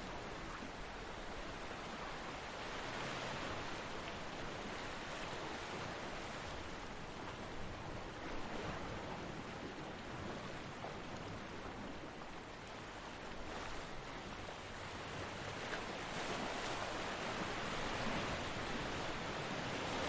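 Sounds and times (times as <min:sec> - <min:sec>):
ocean waves breaking on beach: 0:00.0 - 0:20.0.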